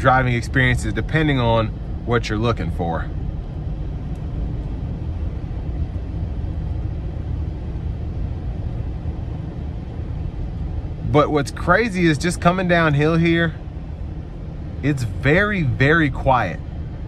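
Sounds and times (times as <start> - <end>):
car cabin road and engine hum: 0.0 - 17.0.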